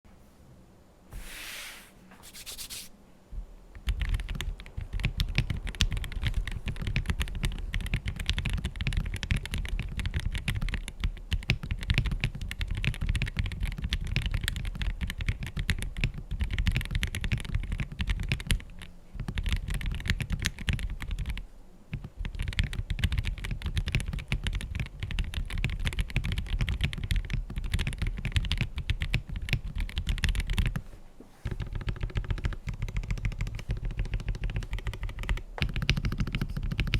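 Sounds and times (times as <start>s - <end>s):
mechanical keyboard typing: 3.8s - 30.8s, 31.5s - 36.9s.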